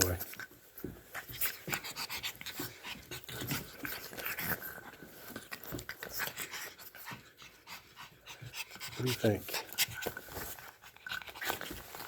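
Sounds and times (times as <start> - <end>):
puppies panting: 0.0 - 12.0.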